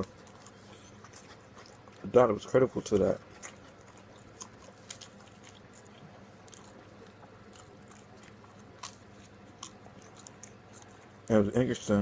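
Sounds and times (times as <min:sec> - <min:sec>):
chewing and biting food: 0:00.0 - 0:12.0.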